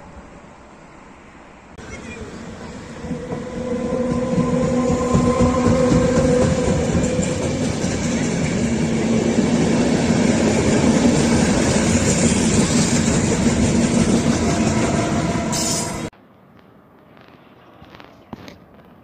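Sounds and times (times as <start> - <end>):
train wheels on rails: 1.8 - 19.0.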